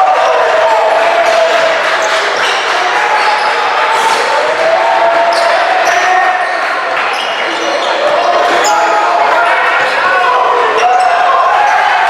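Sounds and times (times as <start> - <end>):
voices: 0.0 - 12.0.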